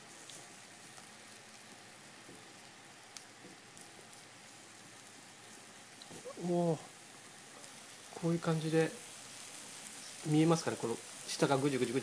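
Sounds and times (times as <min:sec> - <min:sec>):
miso sizzling over charcoal: 0:00.0 - 0:12.0.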